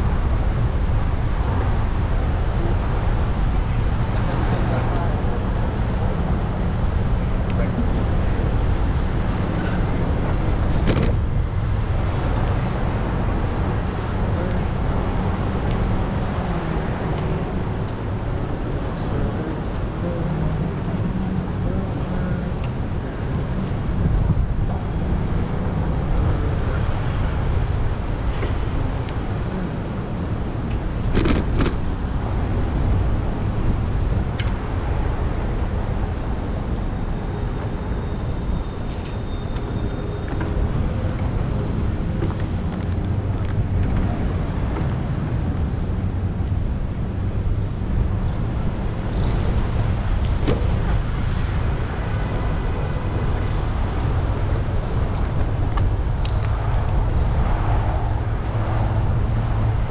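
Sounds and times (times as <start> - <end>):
road traffic: 0.0 - 59.9
wind rumble on microphone: 0.0 - 59.9.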